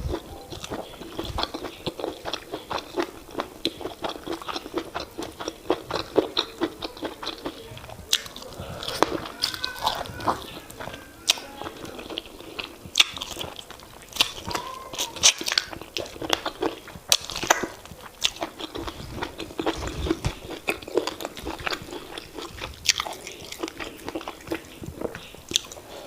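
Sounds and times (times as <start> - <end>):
chewing and wet mouth smacks: 0.0 - 26.0.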